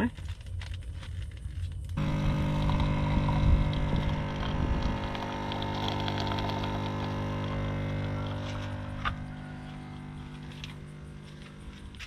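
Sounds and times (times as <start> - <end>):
coffee machine pump humming: 2.0 - 12.0
coffee running into metal mug: 2.0 - 12.0.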